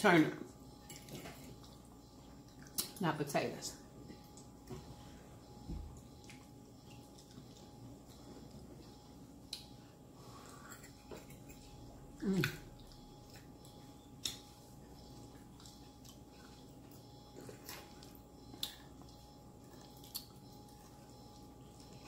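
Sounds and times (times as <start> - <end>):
person chewing: 0.8 - 3.0, 5.9 - 22.0.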